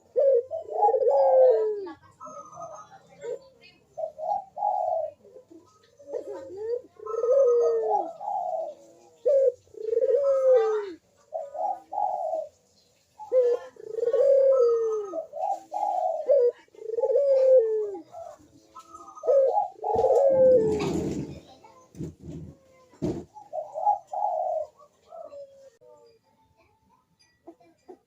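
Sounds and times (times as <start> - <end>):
dove cooing: 0.0 - 26.1.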